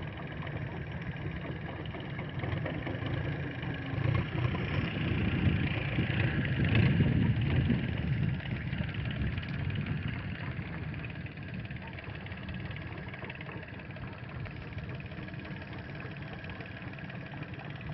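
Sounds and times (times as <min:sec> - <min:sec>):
boat engine running: 0:00.0 - 0:17.9.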